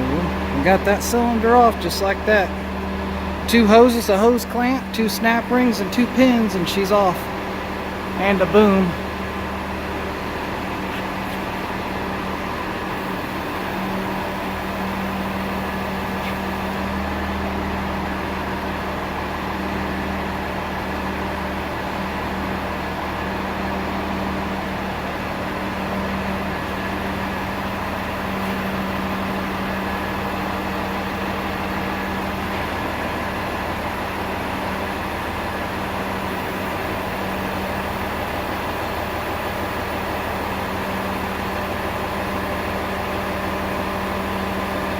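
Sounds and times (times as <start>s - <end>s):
engine humming steadily: 0.0s - 44.9s.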